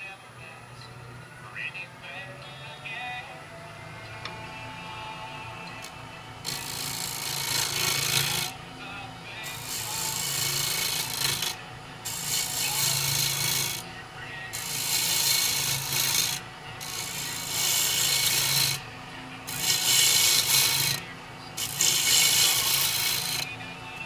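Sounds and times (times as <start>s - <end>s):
lathe humming: 0.0s - 24.0s
turning tool cutting wood: 4.1s - 8.7s, 9.3s - 24.0s.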